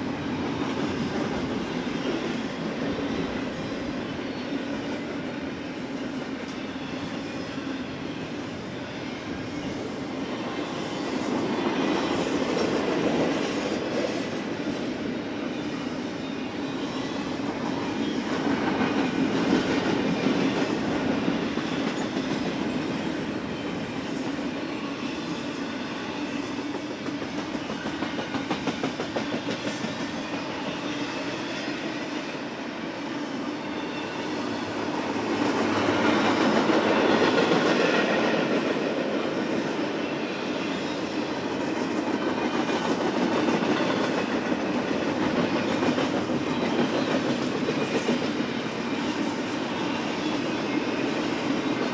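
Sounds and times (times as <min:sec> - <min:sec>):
train wheels clattering on rails: 0:00.0 - 0:51.9.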